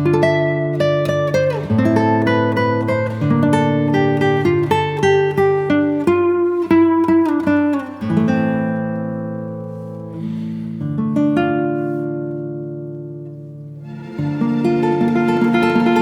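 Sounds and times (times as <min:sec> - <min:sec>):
acoustic guitar picking melody: 0:00.0 - 0:16.0.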